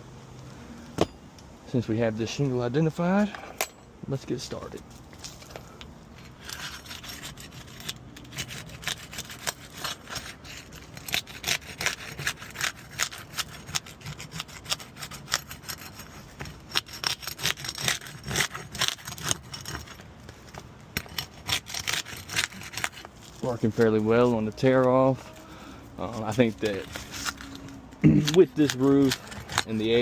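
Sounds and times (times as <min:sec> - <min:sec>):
flat bar scraping under shingles: 0:05.2 - 0:30.0.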